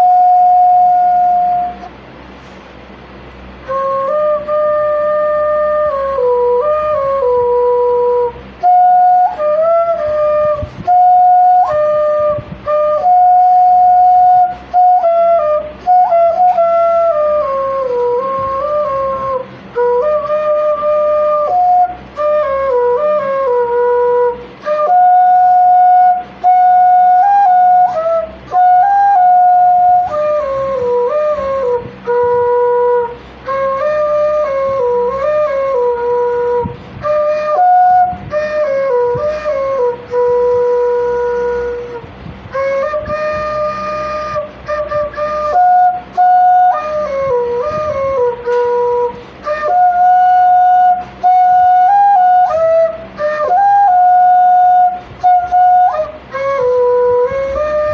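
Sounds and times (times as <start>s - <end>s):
flute-like melody: 0.0s - 2.5s, 3.3s - 57.9s.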